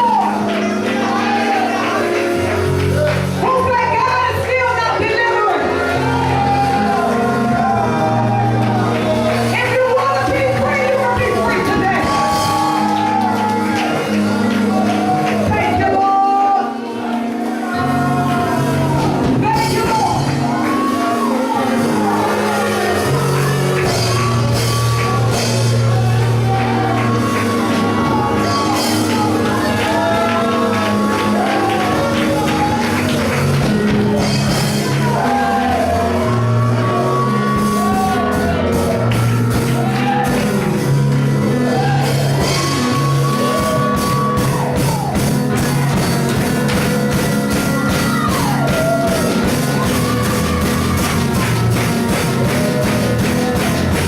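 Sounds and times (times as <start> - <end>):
drums: 0.0 - 16.4, 17.3 - 54.0
bass: 0.0 - 54.0.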